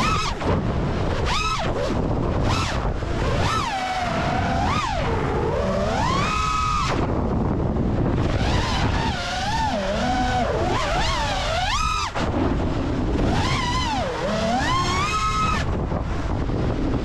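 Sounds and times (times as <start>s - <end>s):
drone motors whining: 0.0s - 17.0s
wind rushing: 0.0s - 17.0s.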